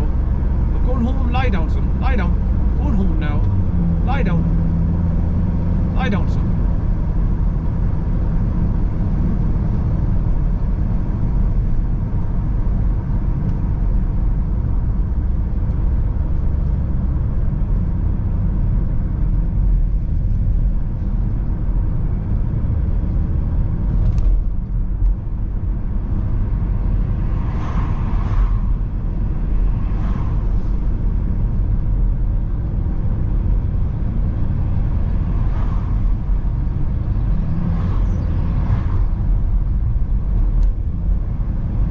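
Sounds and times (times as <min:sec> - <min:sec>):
car engine and tyres rumbling: 0:00.0 - 0:41.9.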